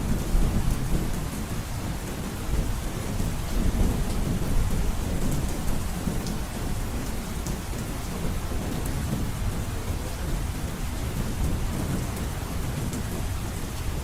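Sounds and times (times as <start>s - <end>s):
heavy rain on a roof: 0.0s - 14.0s.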